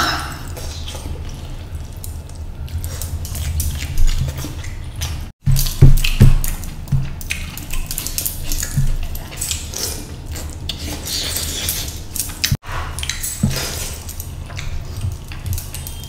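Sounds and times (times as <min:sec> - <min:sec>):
wet chewing: 0:00.4 - 0:16.0.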